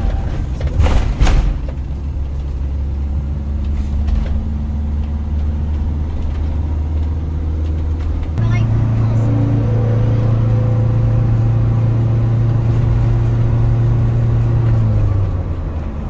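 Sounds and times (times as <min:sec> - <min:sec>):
motorhome engine droning: 0:00.0 - 0:16.0.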